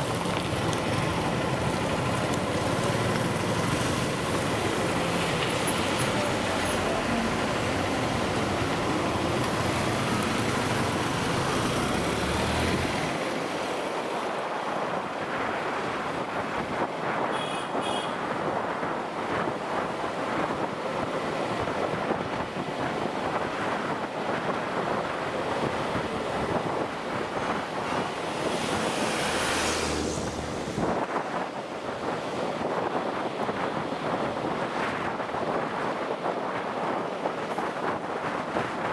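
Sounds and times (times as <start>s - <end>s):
motorcycle engine and road noise: 0.0s - 38.9s
wind rushing over microphone: 0.0s - 38.9s.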